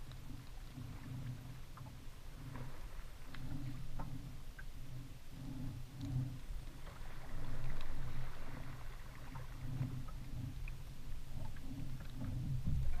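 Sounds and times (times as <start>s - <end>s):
small waves slapping a hull: 0.0s - 13.0s.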